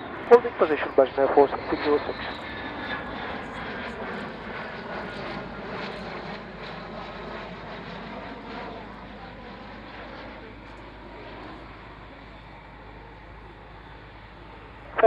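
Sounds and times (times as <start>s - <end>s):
aircraft engine rushing: 0.0s - 15.0s.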